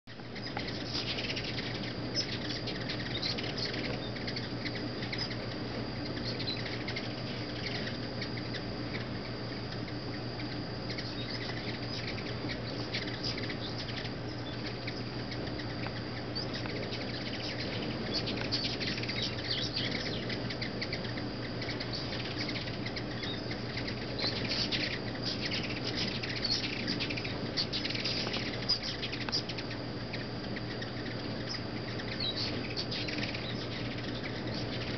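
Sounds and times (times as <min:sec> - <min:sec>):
high hummingbird chips and twitters: 0:00.1 - 0:34.9
hummingbird wings whirring: 0:00.1 - 0:34.9.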